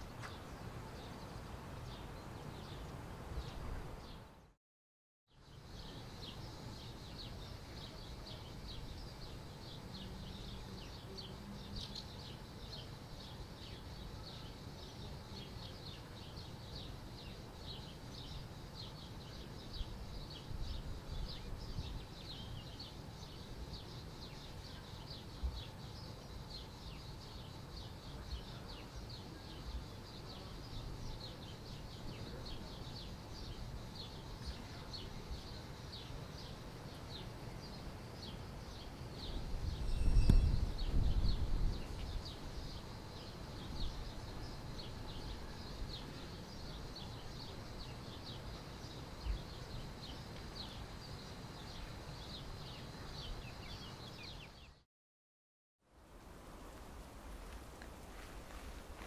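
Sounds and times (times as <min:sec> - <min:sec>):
small birds chirping: 0:00.0 - 0:04.6, 0:05.3 - 0:54.8.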